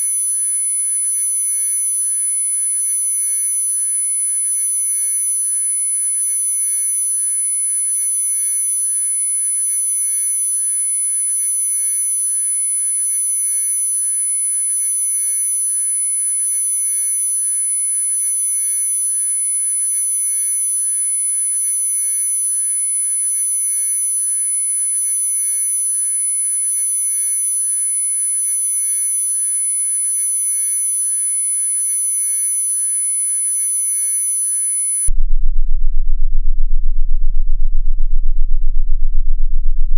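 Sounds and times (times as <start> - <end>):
steady sine tones: 0.0 - 39.9.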